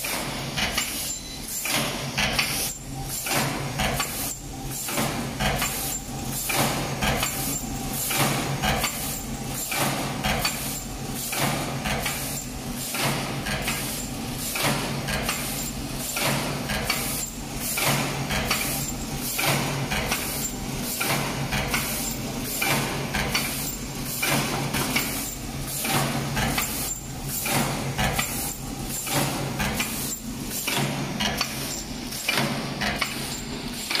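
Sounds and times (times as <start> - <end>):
air hisses and clacks: 0.0 - 34.0.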